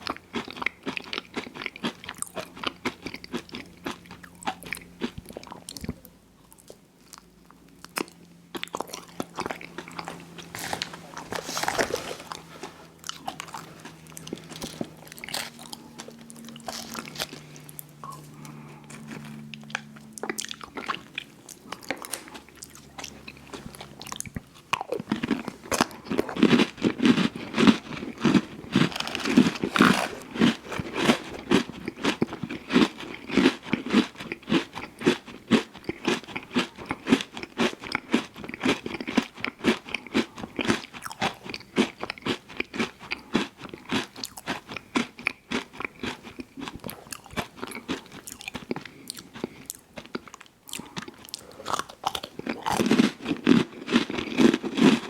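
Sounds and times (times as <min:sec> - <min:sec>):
ice cream crunching: 0:00.0 - 0:55.0
rhythmic chewing: 0:00.0 - 0:55.0.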